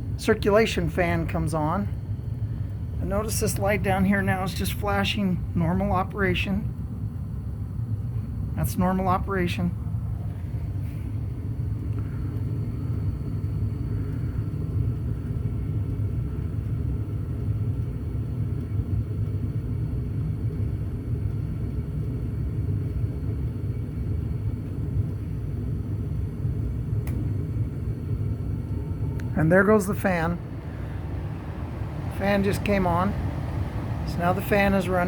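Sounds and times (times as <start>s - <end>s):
faint fan whine: 0.0s - 35.0s
furnace burner rumble: 0.0s - 35.0s.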